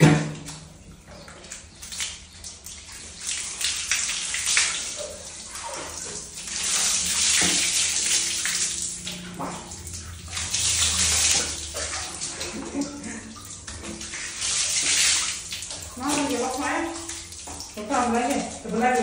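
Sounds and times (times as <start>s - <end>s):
shower water splashing: 0.0s - 19.0s.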